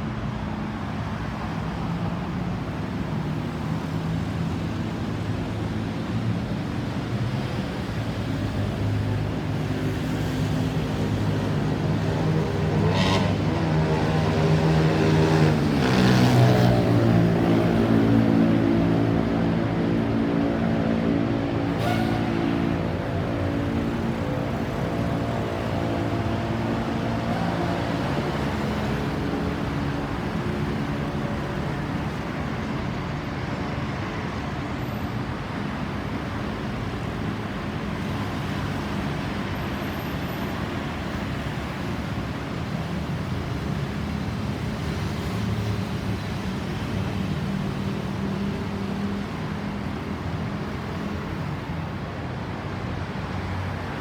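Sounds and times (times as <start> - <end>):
vehicle engines: 0.0 - 54.0.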